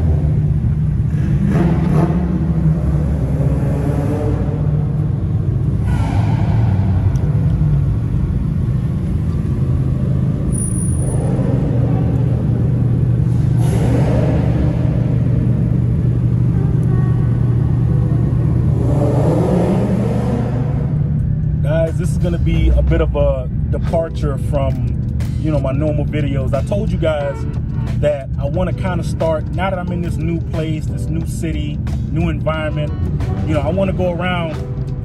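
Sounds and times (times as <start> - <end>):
car engines rumbling: 0.0 - 35.0.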